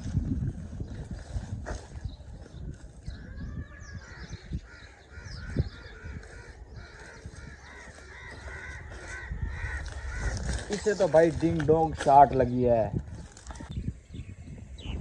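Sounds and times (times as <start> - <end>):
birds calling harshly: 0.8 - 15.0.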